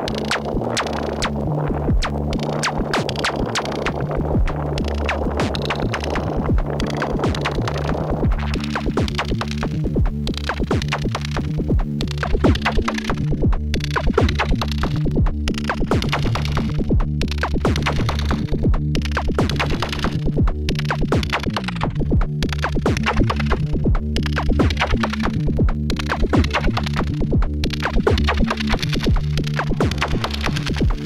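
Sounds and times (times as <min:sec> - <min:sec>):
low synth tones: 0:00.0 - 0:31.0.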